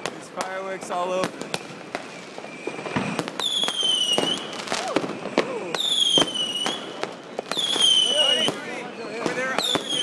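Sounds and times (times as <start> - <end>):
firecracker bangs: 0.0 - 10.0
whistling fireworks: 0.0 - 10.0.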